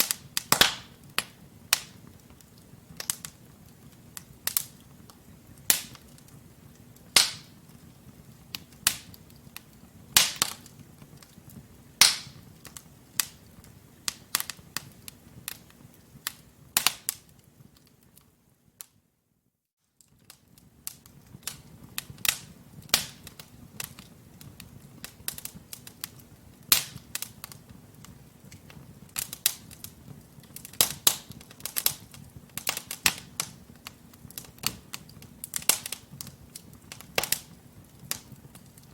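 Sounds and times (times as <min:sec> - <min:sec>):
wood fire crackling: 0:00.0 - 0:19.0, 0:19.8 - 0:38.9.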